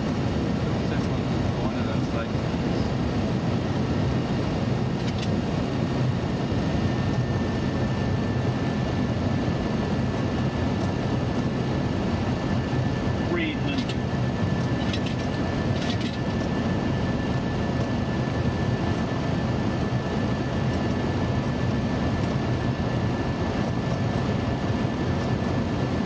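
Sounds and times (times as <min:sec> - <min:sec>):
airflow and engine noise: 0:00.0 - 0:26.0.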